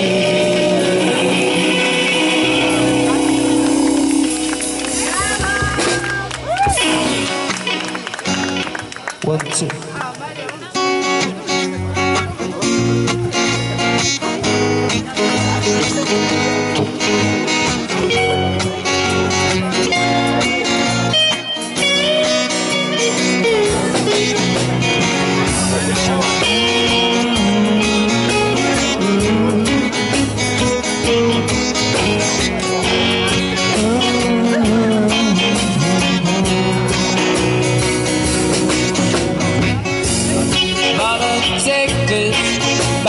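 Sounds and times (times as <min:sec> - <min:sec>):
guitar-led band music: 0:00.0 - 0:43.0.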